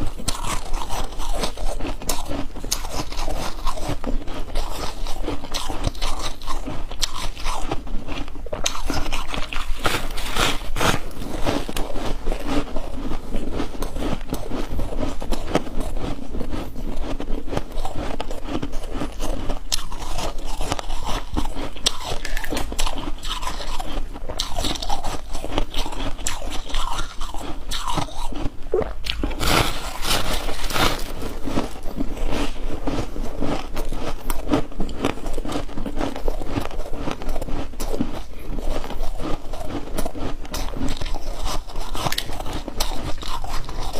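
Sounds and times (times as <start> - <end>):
ice crunching while chewing: 0.0 - 43.9.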